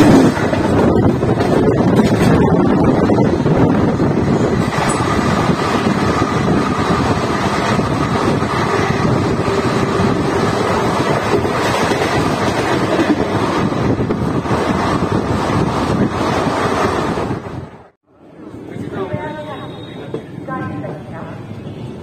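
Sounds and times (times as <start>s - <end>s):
wind buffeting microphone: 0.0s - 17.9s
wheels rumbling on rails: 0.0s - 22.0s.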